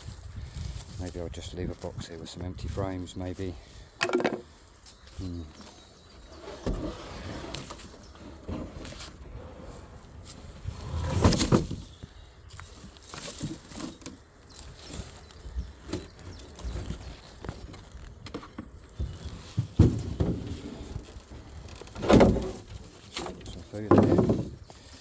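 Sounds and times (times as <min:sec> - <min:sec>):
wooden beehive boxes clattering: 0:03.3 - 0:25.0.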